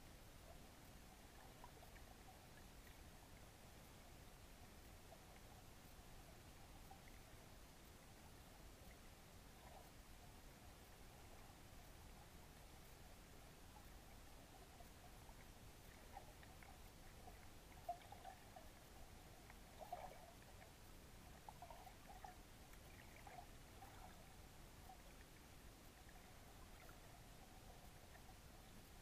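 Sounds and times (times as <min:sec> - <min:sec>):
low underwater hiss: 0:00.0 - 0:29.0
underwater ticks and bubbly blips: 0:00.3 - 0:29.0.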